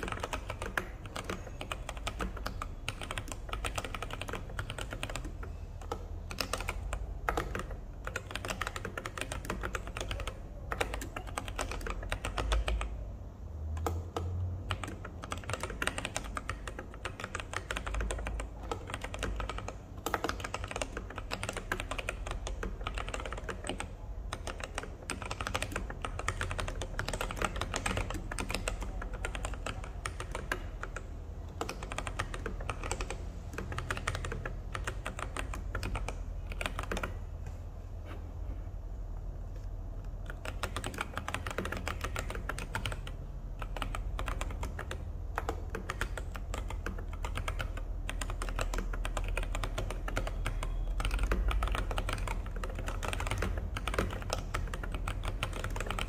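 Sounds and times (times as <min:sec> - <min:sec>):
mechanical keyboard typing: 0:00.0 - 0:37.6, 0:39.6 - 0:56.0.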